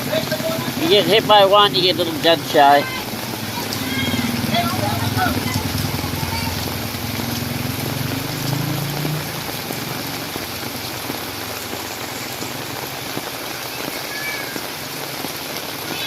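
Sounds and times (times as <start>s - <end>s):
vehicle engine hum: 0.0s - 13.2s
heavy rain hissing: 0.0s - 16.0s.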